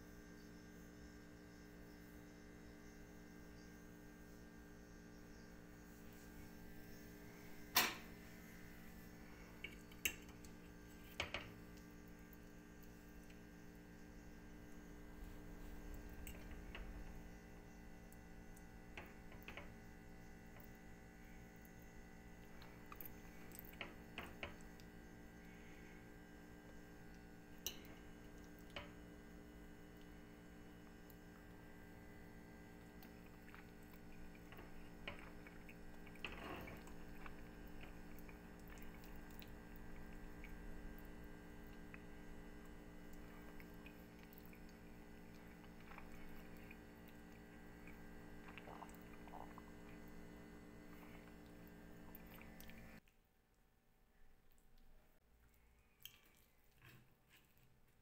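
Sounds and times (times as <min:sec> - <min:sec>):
electrical hum: 0:00.0 - 0:56.8.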